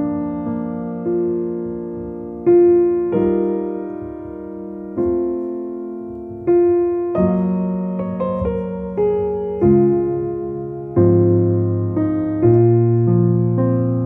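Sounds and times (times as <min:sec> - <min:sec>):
grand piano chords: 0:00.0 - 0:14.0.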